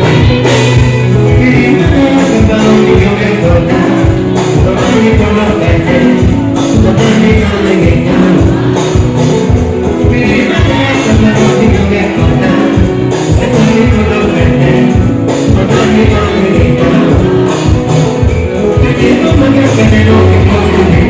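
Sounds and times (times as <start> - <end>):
live band music: 0.0 - 21.0
person singing: 0.0 - 21.0.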